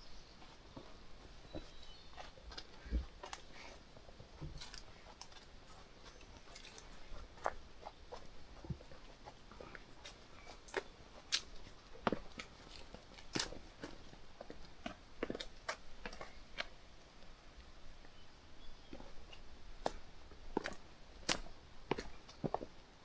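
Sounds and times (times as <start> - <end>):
footsteps crunching on a trail: 0.0 - 16.9, 18.6 - 22.8
faint outdoor background: 0.0 - 23.0.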